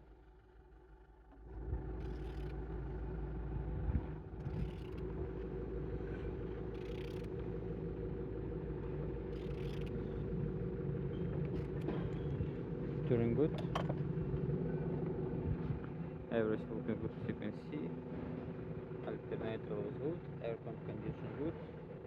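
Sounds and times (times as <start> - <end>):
engine idling: 0.2 - 22.0.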